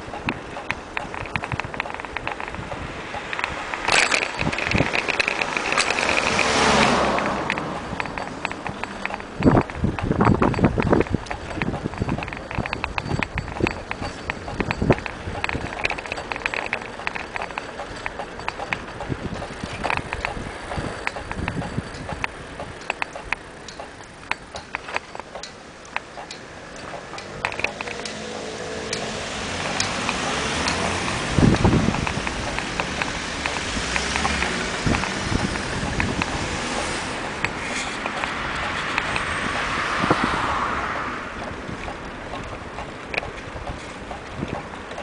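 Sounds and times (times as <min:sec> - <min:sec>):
wind rushing over microphone: 0:00.0 - 0:25.4, 0:26.6 - 0:45.0
bicycle rattling and clicking: 0:00.0 - 0:45.0
low rumble from riding: 0:00.0 - 0:45.0
small ticks: 0:00.1 - 0:40.6.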